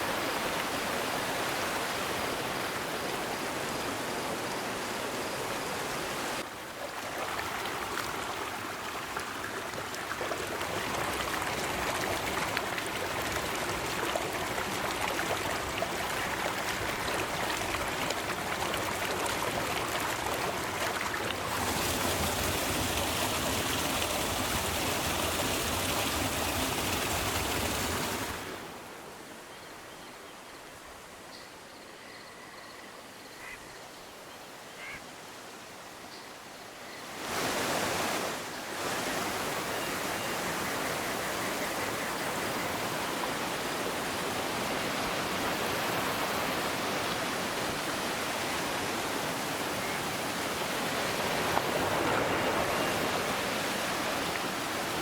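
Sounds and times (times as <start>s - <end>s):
river water rushing: 0.0s - 29.2s, 37.1s - 55.0s.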